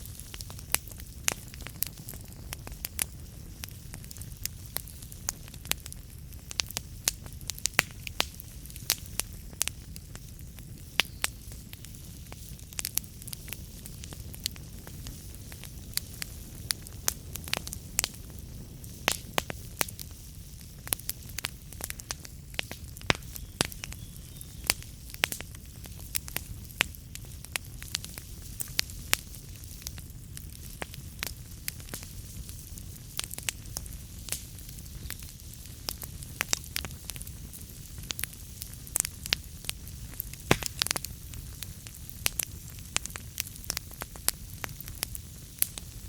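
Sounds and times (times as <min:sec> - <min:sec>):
fireplace fire crackling: 0:00.0 - 0:46.0.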